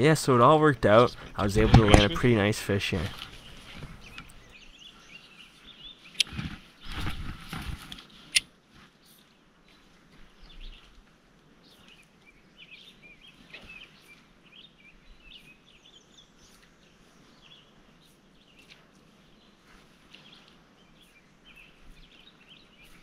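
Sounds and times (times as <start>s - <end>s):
low outdoor hiss: 0.0s - 23.0s
small birds chirping and trilling: 0.4s - 7.5s, 8.1s - 23.0s.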